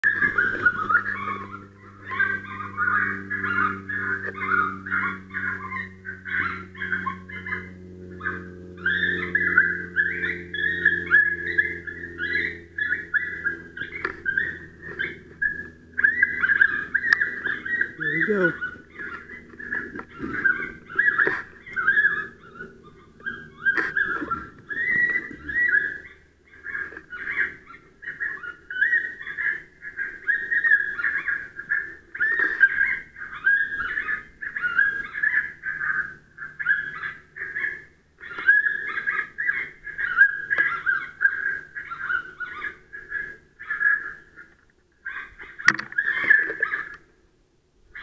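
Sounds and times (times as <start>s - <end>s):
electronic animal distress call: 0.0s - 47.1s.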